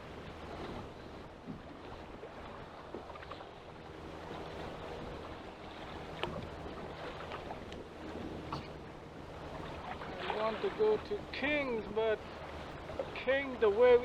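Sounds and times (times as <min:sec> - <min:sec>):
wind on the microphone: 0:00.0 - 0:13.2
choppy sea water around boat: 0:00.0 - 0:14.0.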